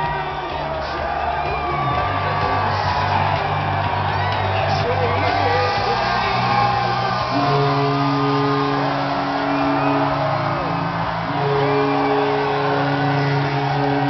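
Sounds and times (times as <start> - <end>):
crowd cheering and shouting: 0.0 - 14.0.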